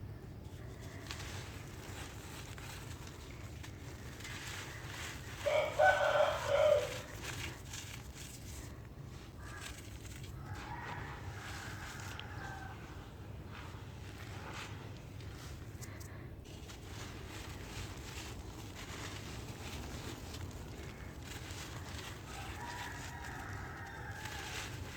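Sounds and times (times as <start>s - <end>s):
dry dirt crumbling: 0.0s - 24.9s.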